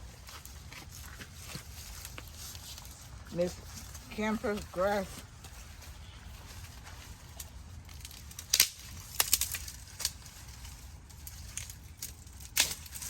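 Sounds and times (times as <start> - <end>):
plants rustling and crackling: 0.0 - 13.0
steady low rumble: 0.0 - 13.0.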